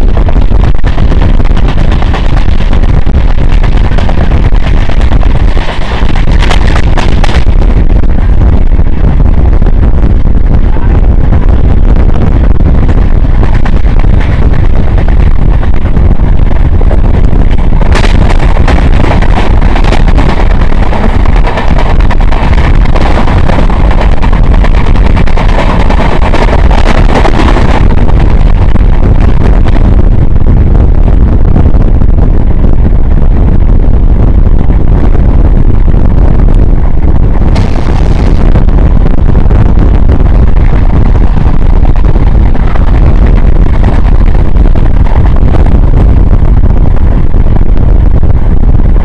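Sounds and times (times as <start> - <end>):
train rumble: 0.0 - 49.0
wind buffeting microphone: 0.0 - 49.0.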